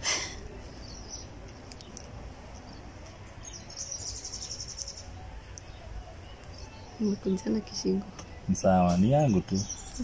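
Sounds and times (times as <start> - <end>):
low outdoor rumble: 0.0 - 10.0
small bird chirping: 0.6 - 10.0.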